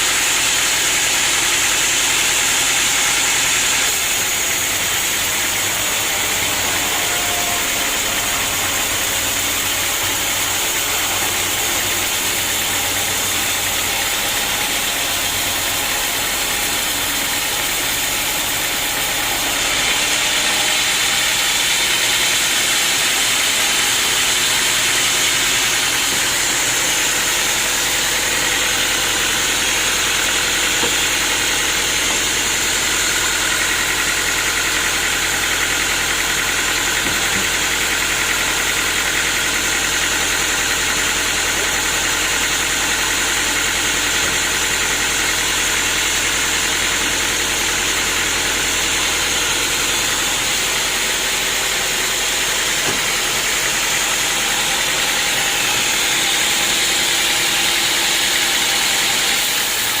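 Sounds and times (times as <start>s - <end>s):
sawmill machinery humming: 0.0s - 60.0s.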